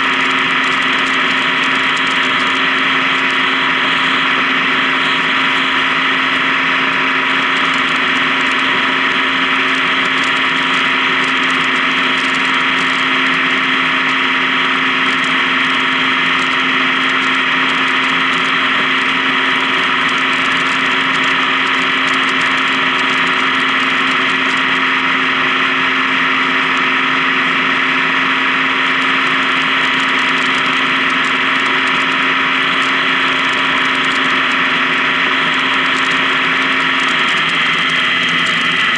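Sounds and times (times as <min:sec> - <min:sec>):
motorcycle engine humming: 0:00.0 - 0:38.9
wind and road noise: 0:00.0 - 0:38.9.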